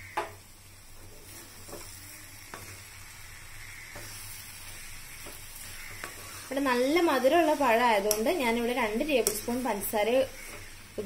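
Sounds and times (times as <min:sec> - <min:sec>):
food sizzling in a frying pan: 0:00.0 - 0:11.0
spoon scraping a pan: 0:01.0 - 0:10.9.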